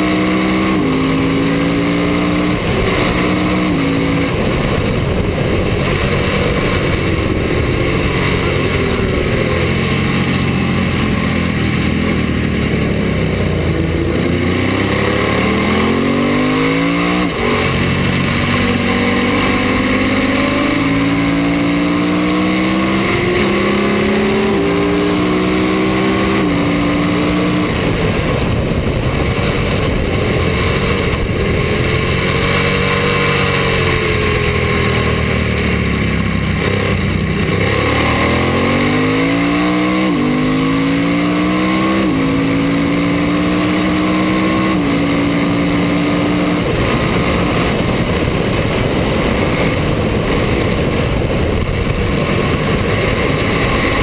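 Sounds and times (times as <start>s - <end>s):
race motorcycle engine: 0.0s - 54.0s
wind rush: 0.0s - 54.0s.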